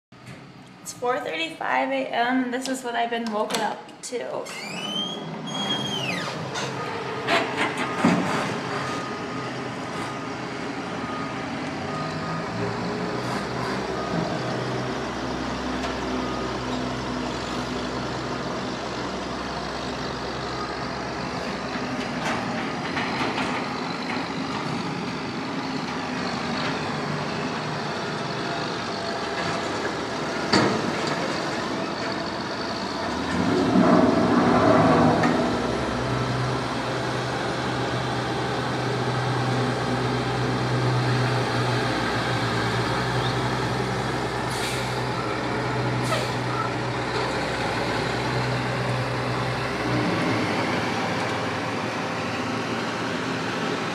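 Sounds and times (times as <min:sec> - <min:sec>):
heavy machinery engine drone: 0:00.2 - 0:53.9.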